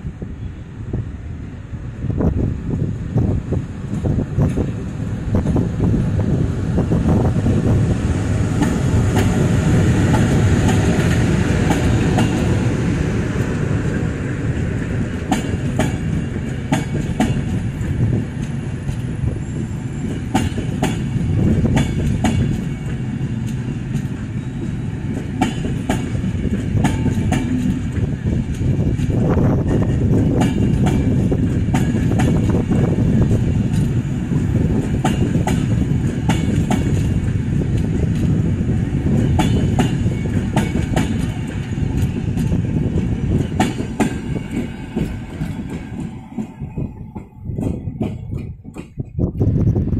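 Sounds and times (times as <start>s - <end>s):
train wheels rumbling on rails: 0.0s - 49.9s
wheels clacking over rail joints: 7.8s - 49.4s.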